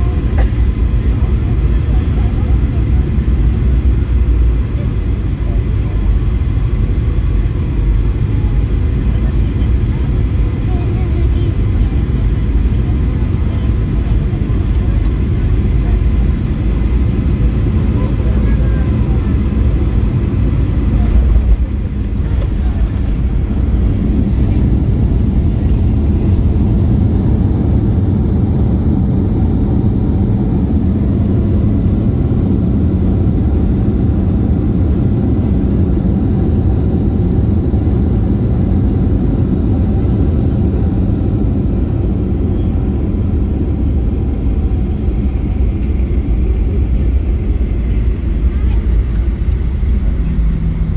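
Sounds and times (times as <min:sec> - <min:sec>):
aircraft wheels rolling on runway: 0:00.0 - 0:50.9
jet engines at low power: 0:00.0 - 0:50.9.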